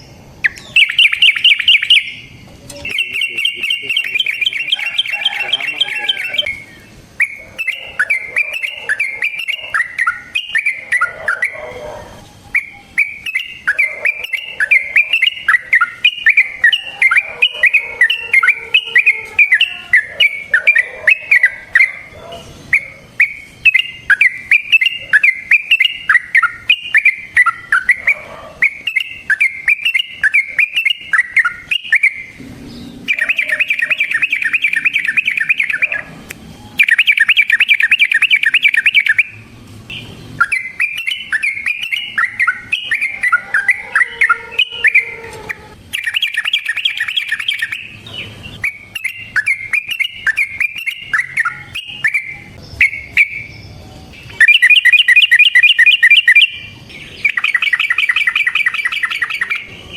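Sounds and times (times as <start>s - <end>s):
bulbul chattering song: 0.0s - 59.9s.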